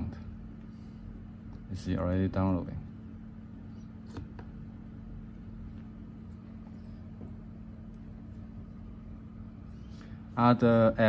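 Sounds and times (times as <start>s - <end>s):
low background hum and rumble: 0.0s - 11.0s.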